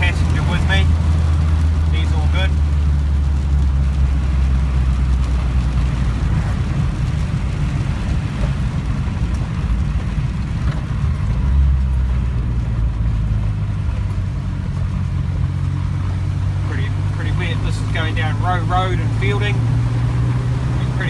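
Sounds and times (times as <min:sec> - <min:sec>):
car engine running: 0:00.0 - 0:21.0
tyres hissing on wet road: 0:00.0 - 0:21.0.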